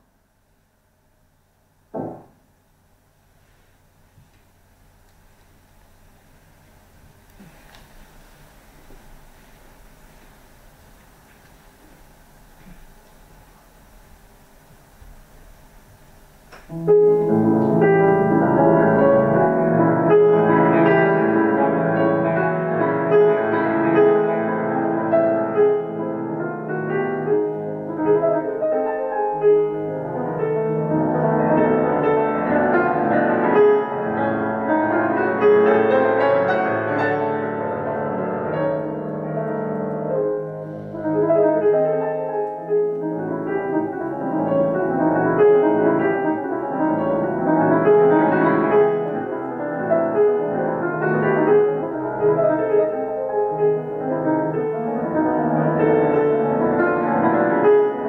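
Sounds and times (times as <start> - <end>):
solo grand piano classical piece: 0.0 - 58.0.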